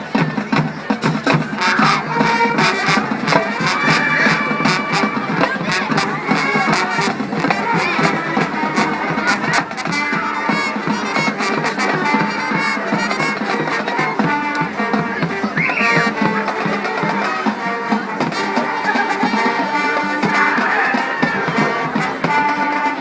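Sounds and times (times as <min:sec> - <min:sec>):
drumline strikes: 0:00.0 - 0:23.0
marching band brass: 0:00.0 - 0:23.0.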